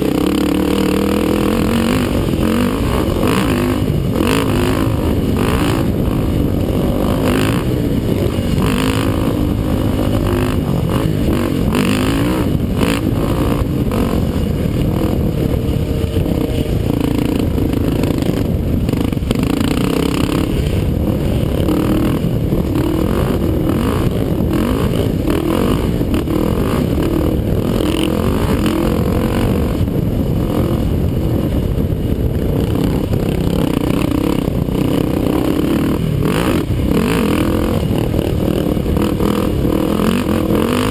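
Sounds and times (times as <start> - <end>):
quad bike engine running hard: 0.0 - 40.9.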